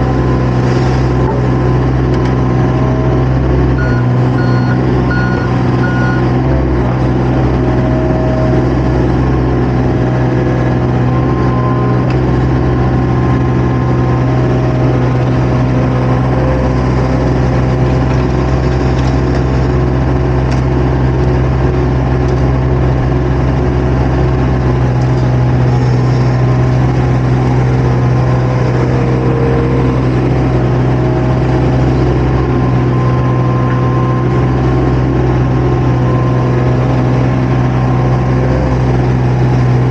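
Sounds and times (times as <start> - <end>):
earthmoving machine engine running: 0.0 - 39.9.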